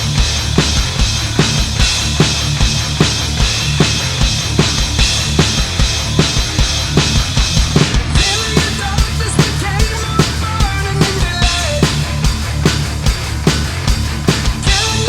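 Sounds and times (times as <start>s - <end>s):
electronic drum kick and snare: 0.0s - 15.0s
heavy rock band mix: 0.0s - 15.0s.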